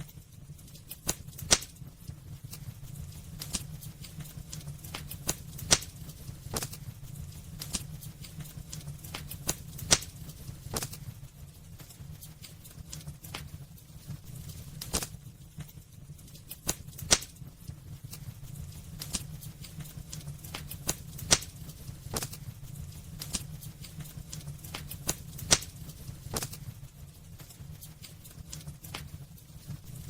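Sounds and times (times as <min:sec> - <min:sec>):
low steady rumble: 0:00.0 - 0:30.0
wood fire crackling: 0:00.0 - 0:30.0.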